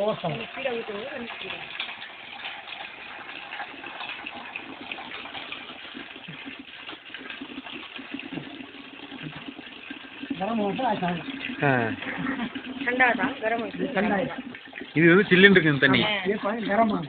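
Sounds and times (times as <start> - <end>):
hot water gushing onto ground: 0.0 - 17.0
water pouring into heater: 0.0 - 17.0.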